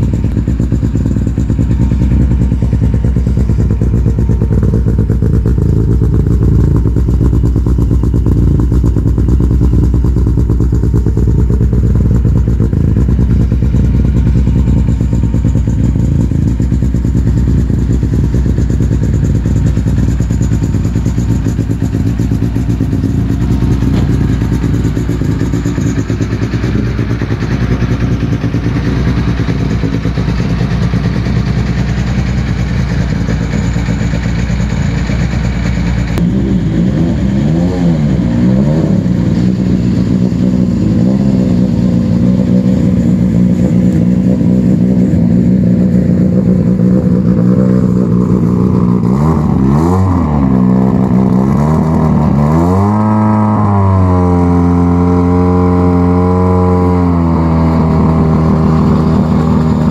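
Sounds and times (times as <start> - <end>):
rally car engines idling: 0.0 - 54.0, 57.2 - 59.9
car engine revving: 0.0 - 59.9.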